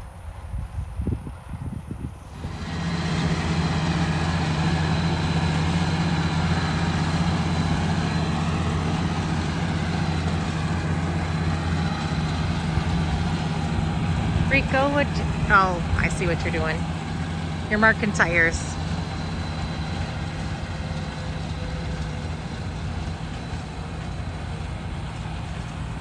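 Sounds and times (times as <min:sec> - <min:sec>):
engine idling: 0:02.2 - 0:26.0.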